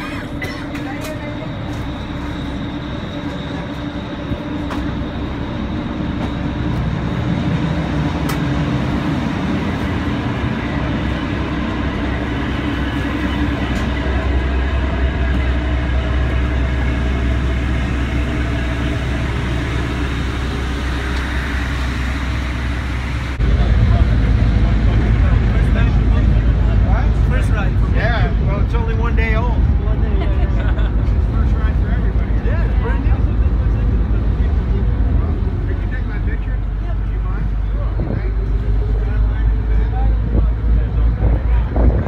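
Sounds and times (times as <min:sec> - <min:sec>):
ferry engines droning: 0:00.0 - 0:42.0.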